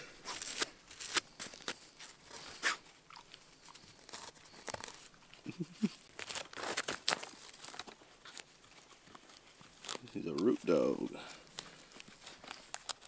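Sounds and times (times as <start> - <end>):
roots cracking: 0.2 - 13.0
dog digging in soil: 0.3 - 13.0.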